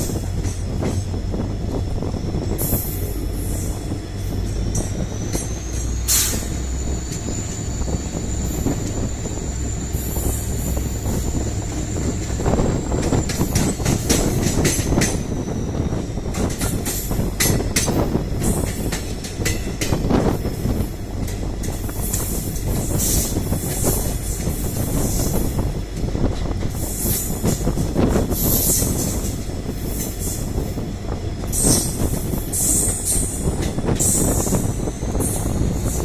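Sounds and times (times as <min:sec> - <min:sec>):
diesel locomotive engine hum: 0:00.0 - 0:36.0
train wheels clicking over rail joints: 0:00.0 - 0:36.0.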